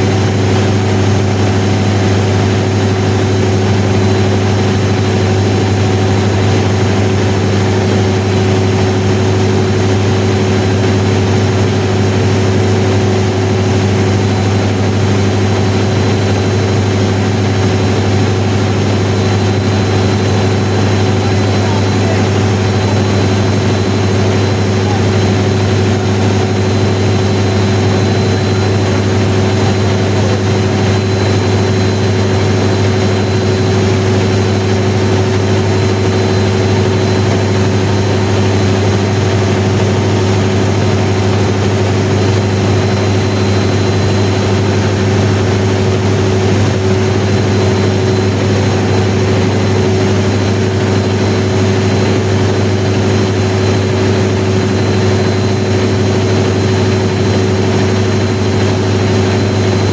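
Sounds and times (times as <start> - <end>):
diesel generator engine drone: 0.0 - 59.9.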